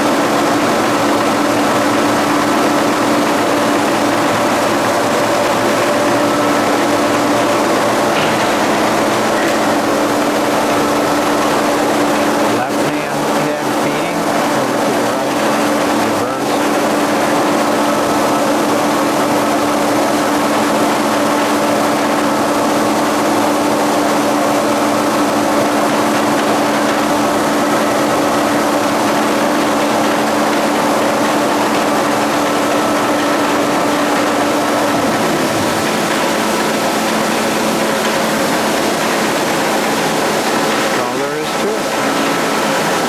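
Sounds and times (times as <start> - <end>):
boring mill machine hum: 0.0 - 43.0.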